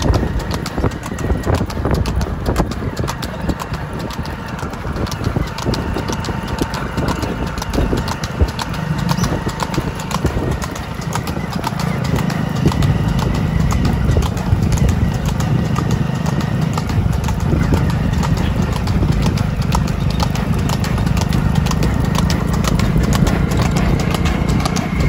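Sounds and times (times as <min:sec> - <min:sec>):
hooves clip-clopping on hard ground: 0:00.0 - 0:25.0.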